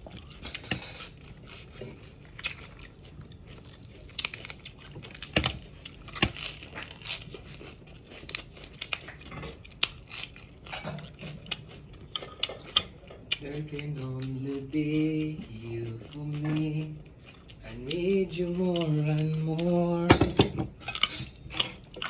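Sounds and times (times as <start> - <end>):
lettuce crunching being chewed: 0.0 - 20.1, 20.7 - 22.0.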